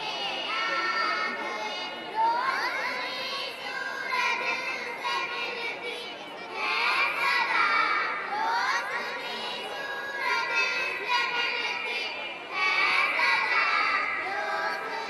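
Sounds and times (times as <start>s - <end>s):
girls singing into microphone: 0.0s - 15.0s.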